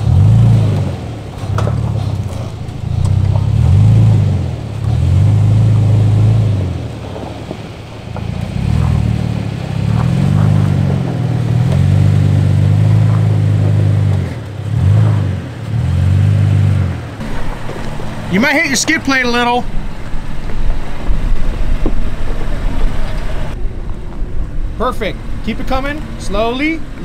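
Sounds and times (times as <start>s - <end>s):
truck engine throttle surges: 0.0s - 27.0s.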